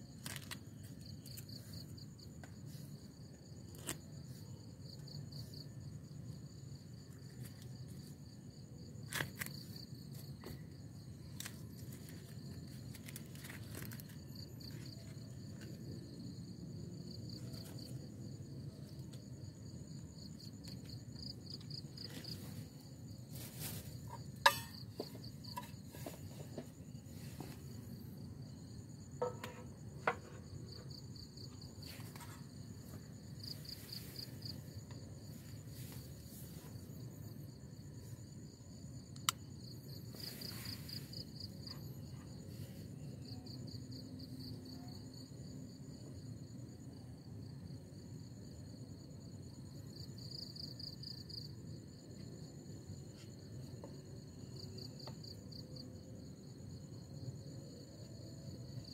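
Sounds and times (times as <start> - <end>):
insects chirping in trills: 0.0 - 58.9.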